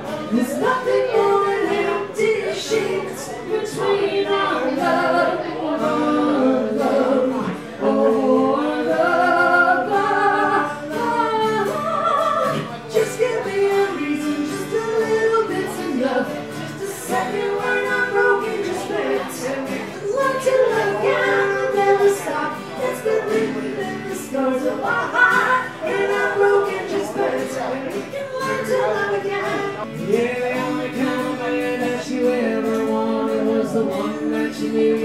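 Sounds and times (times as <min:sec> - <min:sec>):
man and woman singing together: 0:00.0 - 0:35.0
strummed acoustic guitars: 0:00.0 - 0:35.0.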